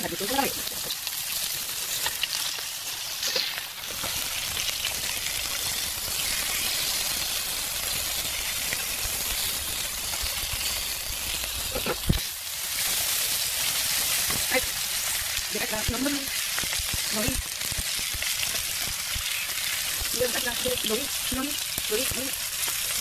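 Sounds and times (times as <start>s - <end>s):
fish sizzling in oil: 0.0s - 23.0s.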